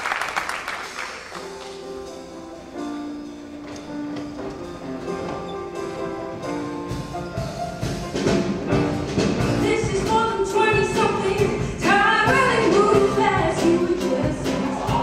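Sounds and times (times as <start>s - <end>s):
instrumental backing with percussion: 0.8s - 15.0s.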